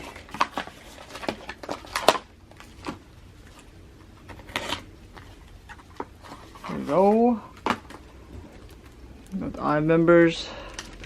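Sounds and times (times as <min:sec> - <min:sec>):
packaging crinkling and rustling: 0:00.0 - 0:09.4, 0:10.6 - 0:11.0.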